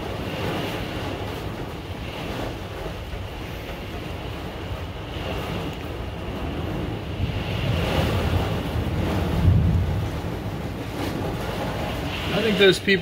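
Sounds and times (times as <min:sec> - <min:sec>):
heavy rain lashing camper: 0:00.0 - 0:13.0
storm wind gusting: 0:00.0 - 0:13.0.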